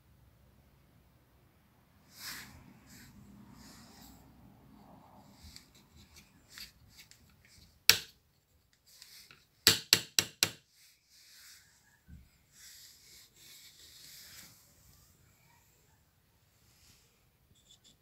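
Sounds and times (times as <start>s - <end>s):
rubbing and handling noise: 2.1s - 18.0s.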